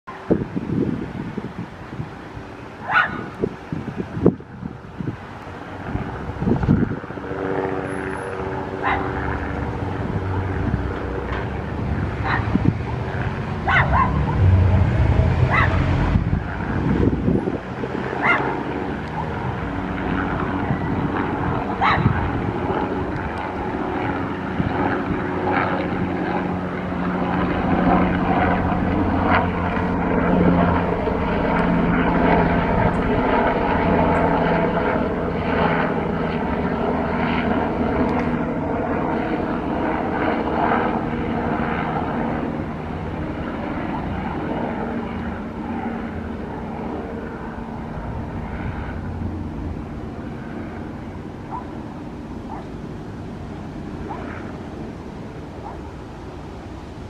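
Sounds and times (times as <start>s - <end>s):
helicopter flying past: 0.1s - 57.0s.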